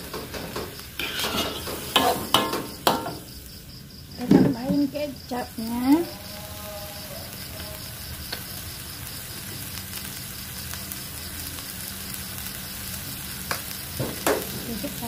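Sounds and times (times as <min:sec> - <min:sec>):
noodles sizzling in a wok: 0:00.0 - 0:15.0.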